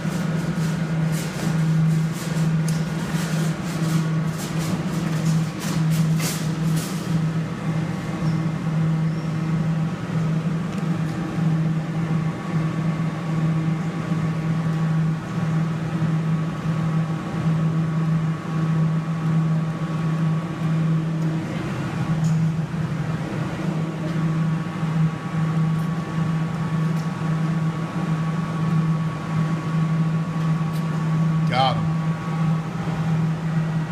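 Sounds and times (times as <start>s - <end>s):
claw machine humming: 0.0s - 33.9s.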